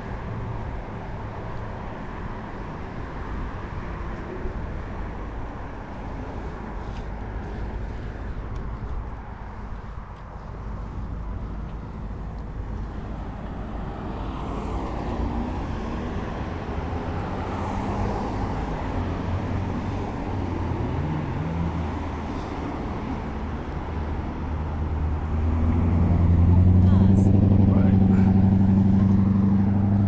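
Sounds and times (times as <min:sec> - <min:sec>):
road traffic rushing: 0:00.0 - 0:30.0.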